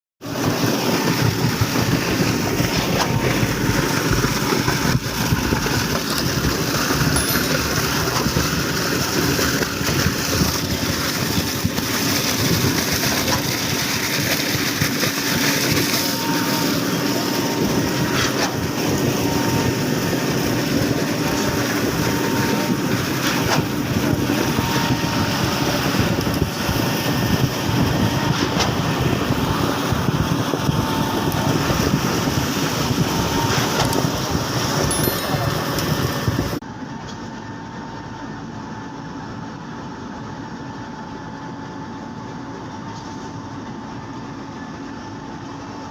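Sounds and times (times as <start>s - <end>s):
concrete pump machinery running: 0.2s - 45.9s.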